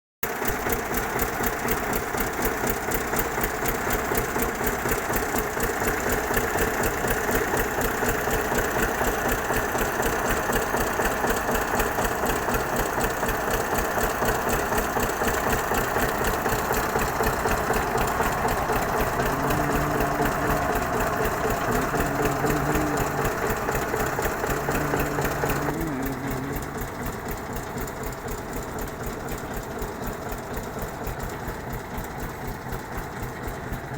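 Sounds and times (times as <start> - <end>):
diesel engine knocking: 0.3 - 33.9.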